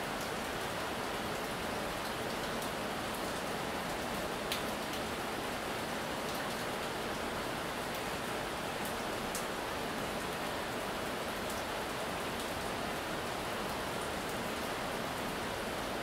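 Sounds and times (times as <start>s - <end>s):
heavy rain on wet paving: 0.0s - 16.0s.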